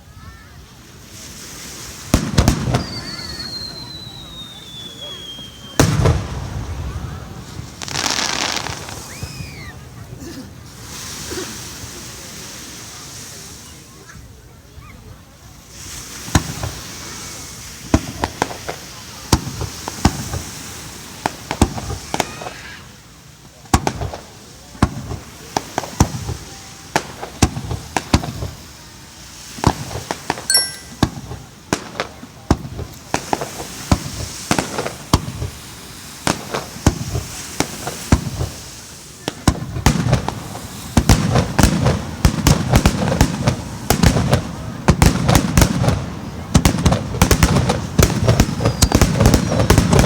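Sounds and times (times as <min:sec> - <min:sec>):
fireworks bangs and crackles: 0:00.6 - 0:14.1, 0:15.2 - 0:50.0.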